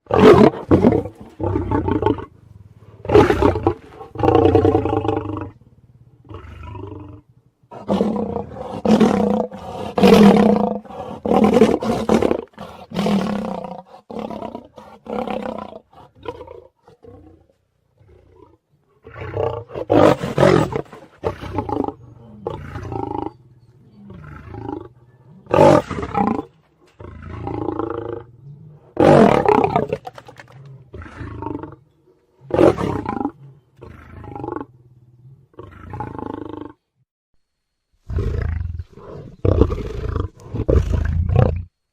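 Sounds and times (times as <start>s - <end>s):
lion roaring and snarling: 0.0s - 36.8s.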